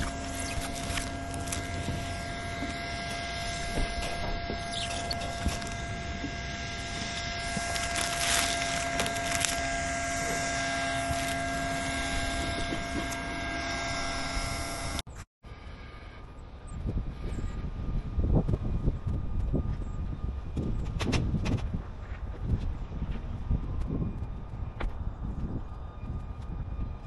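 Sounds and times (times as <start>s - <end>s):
steady electric hum: 0.0s - 27.0s.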